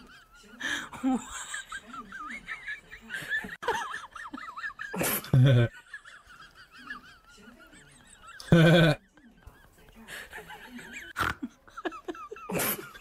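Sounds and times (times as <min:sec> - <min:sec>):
laughter: 0:00.0 - 0:13.0
people talking: 0:00.0 - 0:13.0.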